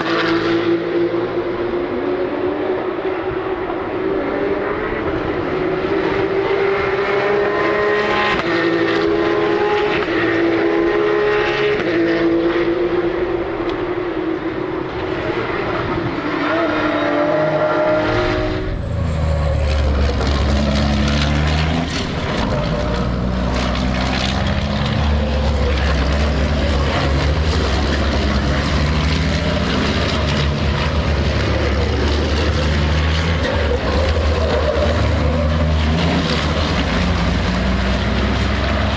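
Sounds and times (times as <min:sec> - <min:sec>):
racing engine with gear changes: 0:00.0 - 0:38.9.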